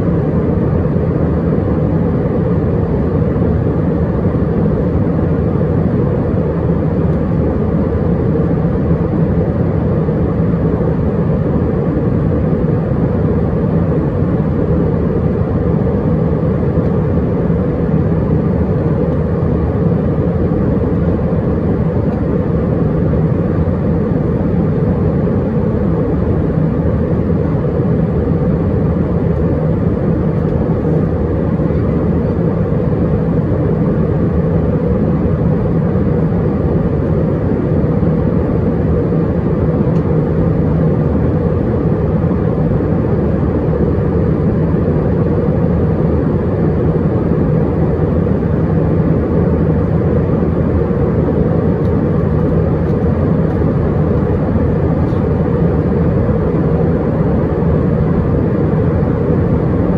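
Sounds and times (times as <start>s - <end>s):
airplane cabin engine roar: 0.0s - 59.9s
steady low hum: 0.0s - 59.9s.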